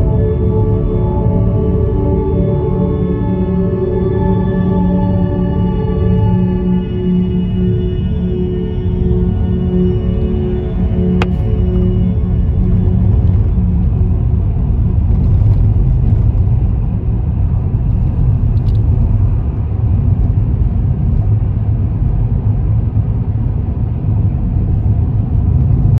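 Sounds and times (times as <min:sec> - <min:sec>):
car engine and tyres rumbling: 0:00.0 - 0:25.9.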